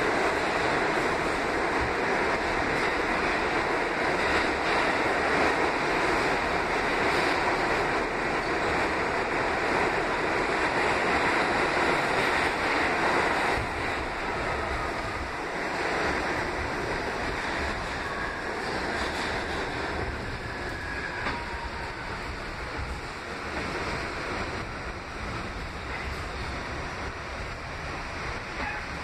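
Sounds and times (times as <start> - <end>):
subway wheels on track: 0.0 - 29.0.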